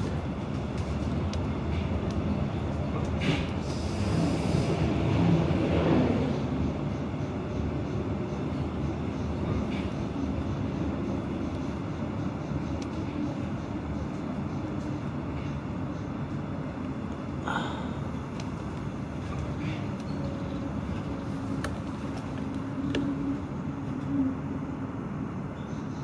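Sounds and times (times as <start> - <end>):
train rumble from inside carriage: 0.0 - 26.0.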